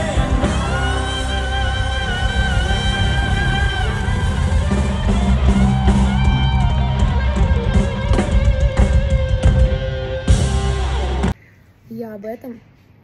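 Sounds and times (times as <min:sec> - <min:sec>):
drum kit: 0:00.0 - 0:11.4
electric guitar: 0:00.0 - 0:11.4.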